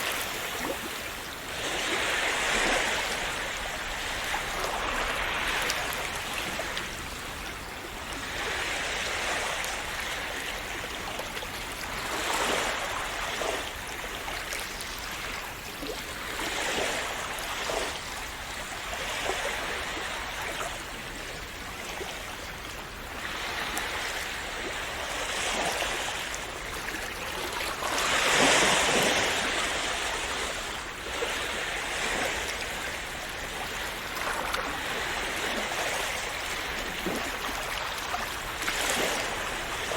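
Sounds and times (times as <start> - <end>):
sea waves splashing: 0.0 - 39.9.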